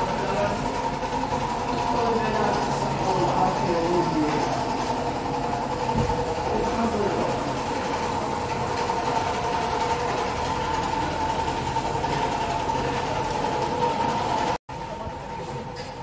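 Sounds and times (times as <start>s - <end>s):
mechanical hum with whine: 0.0s - 16.0s.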